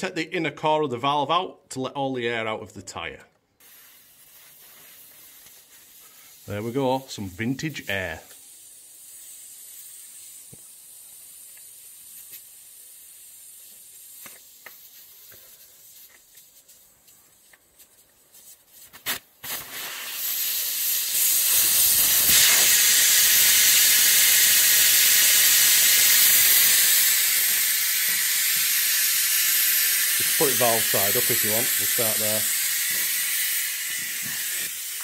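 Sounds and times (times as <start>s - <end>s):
air hissing from tyre valve: 3.6s - 35.0s.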